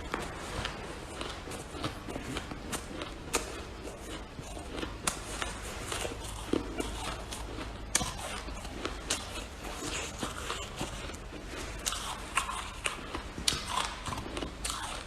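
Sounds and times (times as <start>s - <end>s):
freezer frost crunching: 0.0s - 15.0s.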